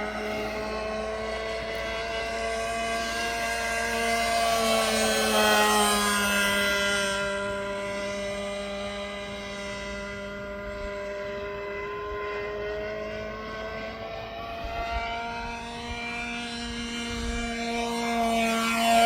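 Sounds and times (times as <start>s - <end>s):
model plane motor humming: 0.0s - 19.0s.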